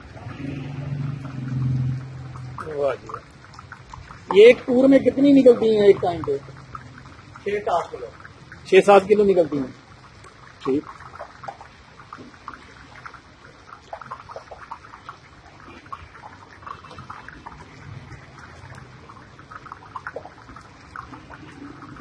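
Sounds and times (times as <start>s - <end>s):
oil crackling and bubbling: 0.0s - 22.0s.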